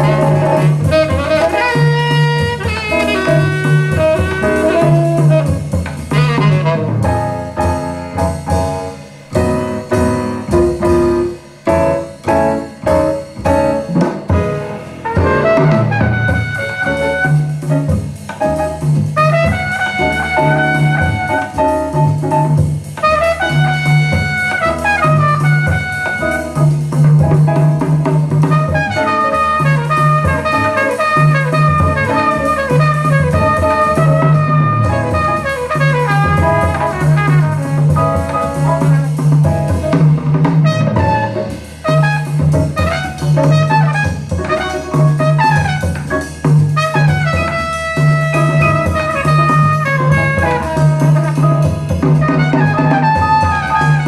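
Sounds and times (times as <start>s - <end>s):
horns playing melody: 0.0s - 26.9s, 28.4s - 54.0s
pulsing bass line: 0.0s - 46.6s
drum kit: 0.0s - 54.0s.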